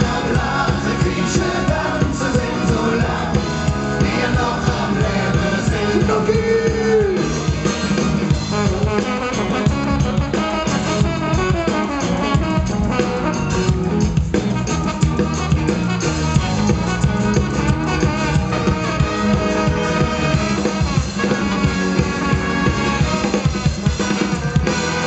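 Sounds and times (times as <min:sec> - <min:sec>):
trombone: 0:00.0 - 0:06.4, 0:07.0 - 0:25.0
live band playing ska: 0:00.0 - 0:25.0.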